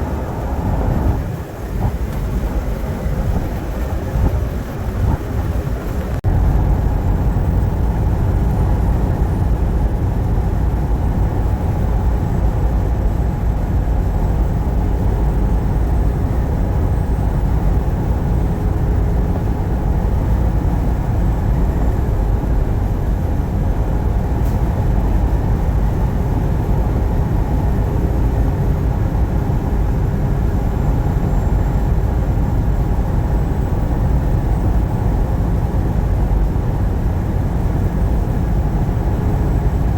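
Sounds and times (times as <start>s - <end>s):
truck road and engine rumble: 0.0s - 39.9s.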